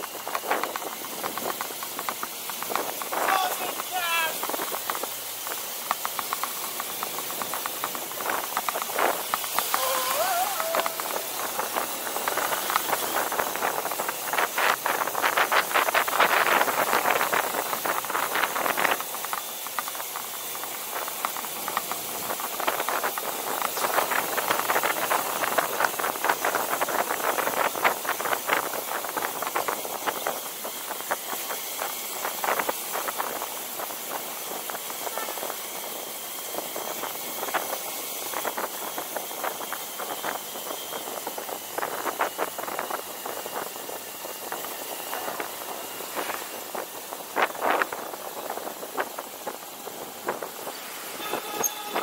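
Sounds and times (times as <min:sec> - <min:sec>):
motorbike riding hiss: 0:00.0 - 0:52.0.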